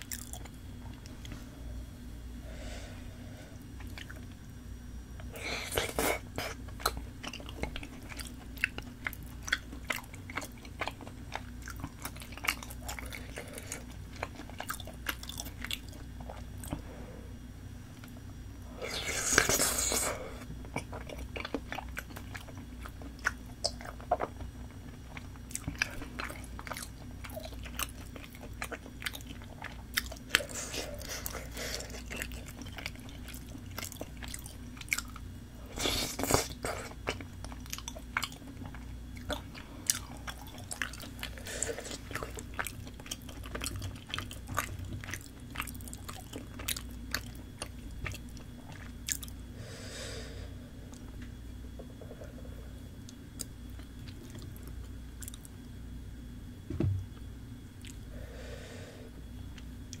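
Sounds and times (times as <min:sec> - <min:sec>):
chewing and wet mouth sounds: 0:00.0 - 0:01.4, 0:03.6 - 0:04.4, 0:05.2 - 0:16.9, 0:18.0 - 0:49.5, 0:50.8 - 0:55.8, 0:57.8 - 0:58.0.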